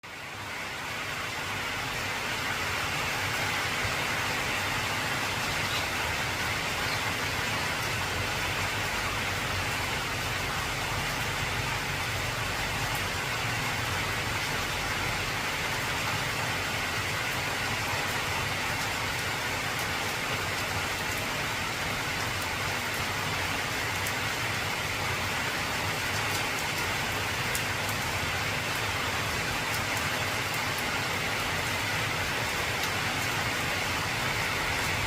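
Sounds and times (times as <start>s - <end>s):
heavy rain on a tin roof: 0.0s - 35.0s.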